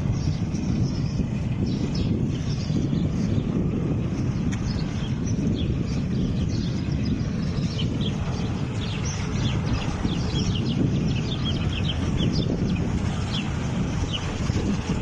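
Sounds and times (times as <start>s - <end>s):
bus engine rumbling: 0.0s - 15.0s
small birds chirping: 0.0s - 15.0s.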